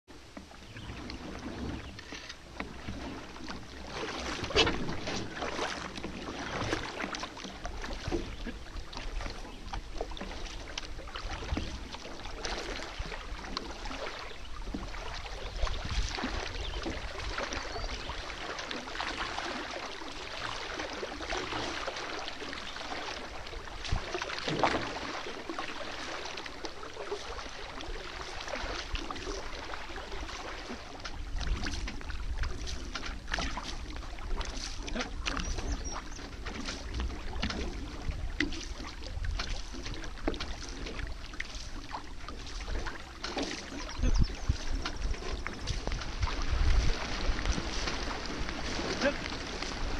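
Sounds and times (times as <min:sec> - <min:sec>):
water swishing along hull: 0:00.0 - 0:49.9
paddles splashing in water: 0:00.1 - 0:49.9.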